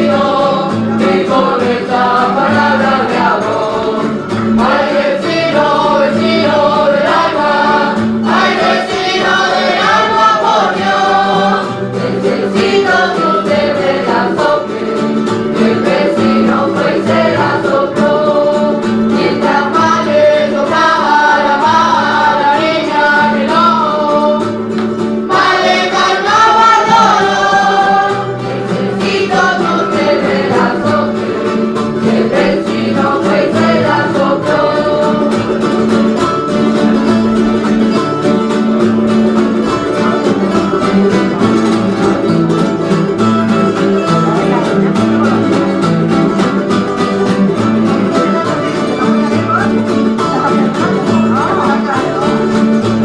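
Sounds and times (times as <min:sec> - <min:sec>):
folk group singing in chorus: 0:00.0 - 0:49.0
plucked and strummed strings: 0:00.0 - 0:53.0.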